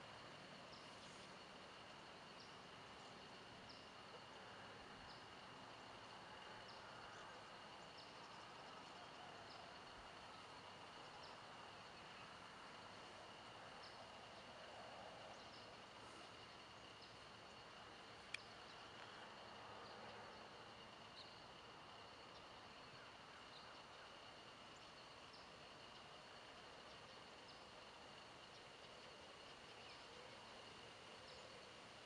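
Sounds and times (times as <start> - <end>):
insect chirping: 0.0 - 32.0.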